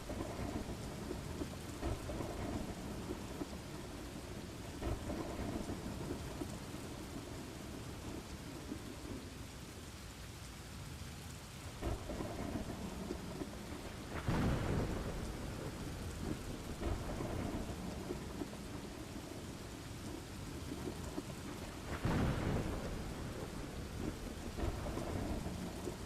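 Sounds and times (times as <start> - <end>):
thunder rumbling: 0.0 - 9.4, 11.8 - 26.0
steady rain: 0.0 - 26.0.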